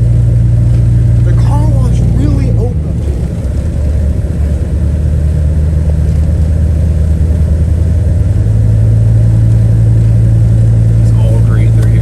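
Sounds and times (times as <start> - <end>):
engine and road noise in cab: 0.0 - 12.0.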